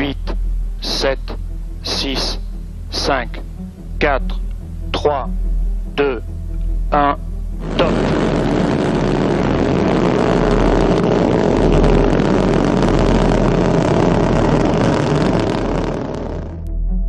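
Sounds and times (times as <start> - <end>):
rocket engines roaring: 0.0 - 16.7.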